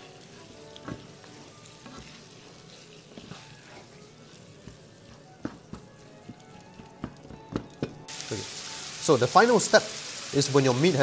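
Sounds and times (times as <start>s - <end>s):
meat sizzling in a frying pan: 0.0s - 6.8s, 8.0s - 11.0s.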